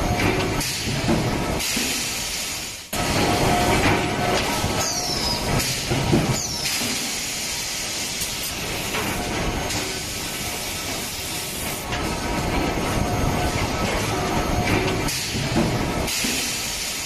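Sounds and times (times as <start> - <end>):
industrial machinery noise: 0.0 - 17.0.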